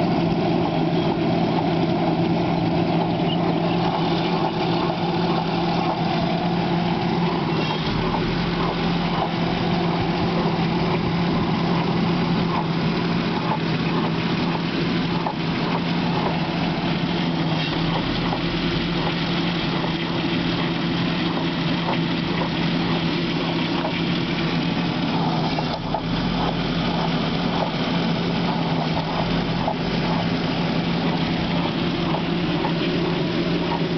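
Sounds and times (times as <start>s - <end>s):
van engine idling: 0.0s - 33.9s.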